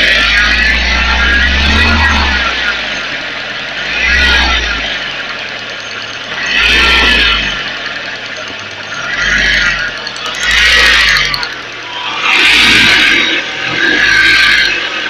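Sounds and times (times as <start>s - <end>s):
engine sound rising: 0.0s - 15.0s
engine whining noise: 0.0s - 15.0s.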